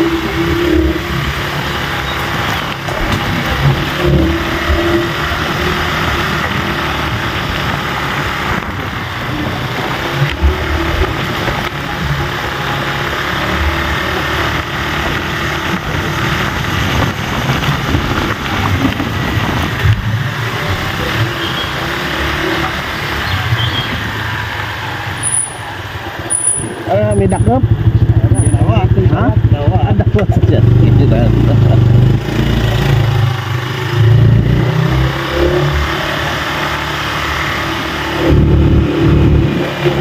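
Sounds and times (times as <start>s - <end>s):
motorcycle engine: 0.0s - 40.0s
wind: 0.0s - 40.0s.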